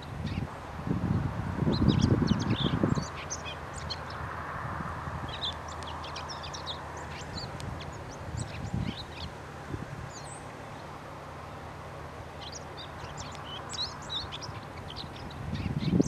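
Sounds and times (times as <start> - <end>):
small birds chirping: 0.0 - 4.4, 5.1 - 16.0.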